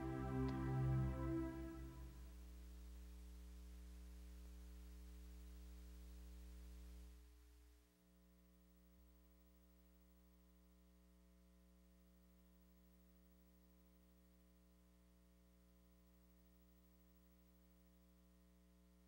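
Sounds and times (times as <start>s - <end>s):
faint electrical mains hum: 0.0s - 19.0s.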